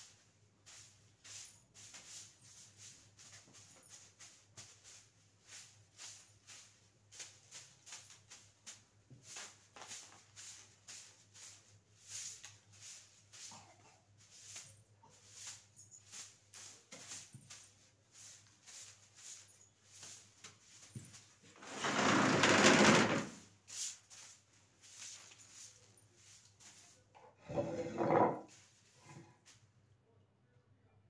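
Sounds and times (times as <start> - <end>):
broom sweeping cement floor: 0.0 - 29.7.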